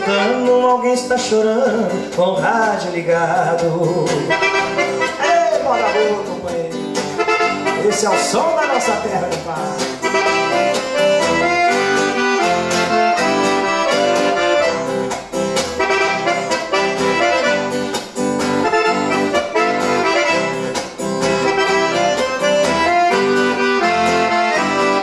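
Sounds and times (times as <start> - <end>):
accordion playing: 0.0 - 0.9, 3.9 - 25.0
strummed guitar: 0.0 - 25.0.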